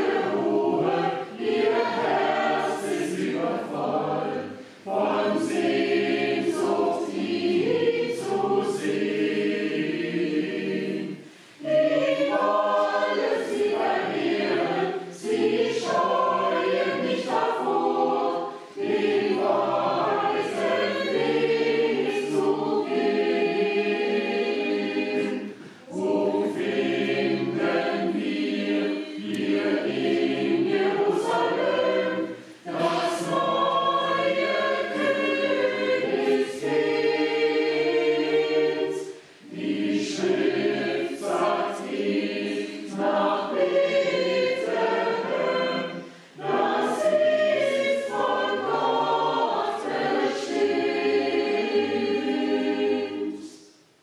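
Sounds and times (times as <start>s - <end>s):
church choir singing: 0.0s - 54.0s.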